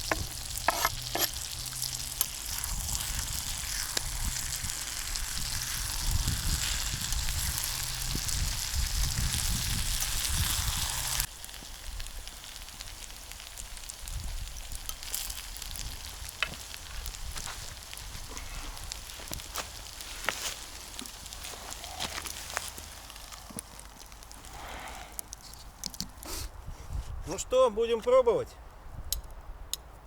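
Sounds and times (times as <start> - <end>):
food sizzling in a frying pan: 0.0 - 25.0.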